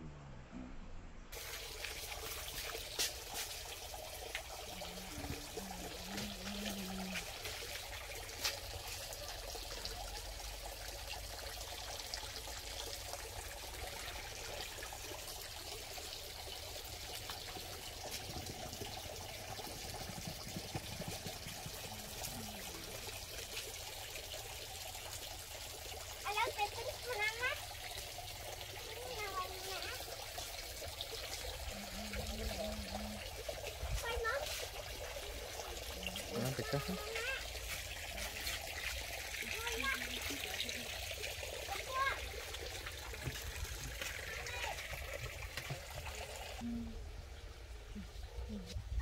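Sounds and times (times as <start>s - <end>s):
running water trickling: 1.3s - 49.0s.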